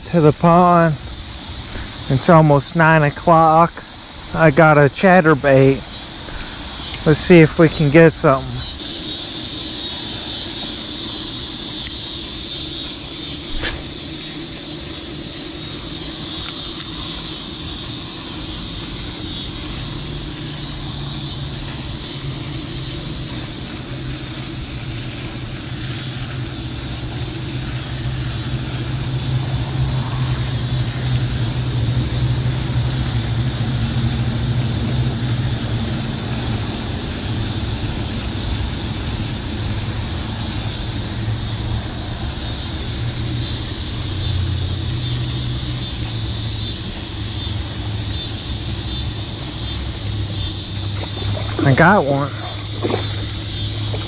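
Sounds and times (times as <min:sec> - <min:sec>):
low motor hum: 0:00.0 - 0:54.0
outdoor background noise: 0:00.0 - 0:54.0.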